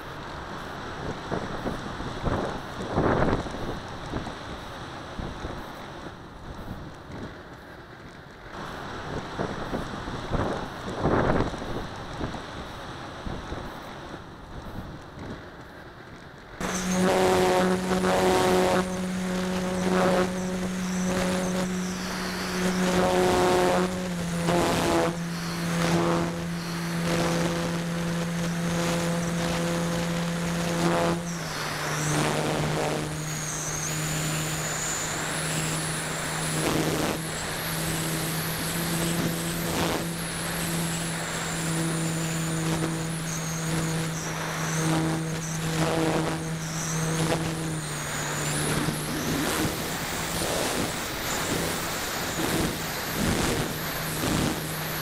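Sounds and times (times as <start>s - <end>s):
electric motor and propeller humming: 0.0s - 55.0s.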